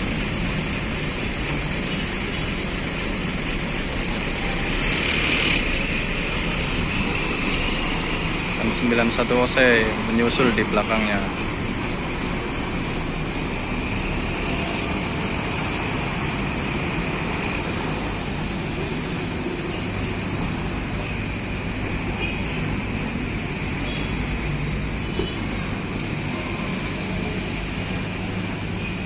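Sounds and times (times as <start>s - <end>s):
bus diesel engine rumbling: 0.0s - 29.0s.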